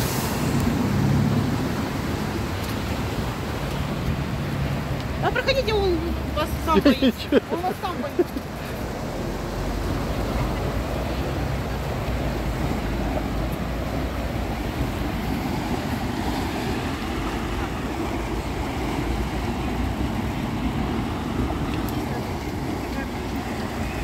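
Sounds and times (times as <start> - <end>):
floodwater rushing along pavement: 0.0 - 24.0.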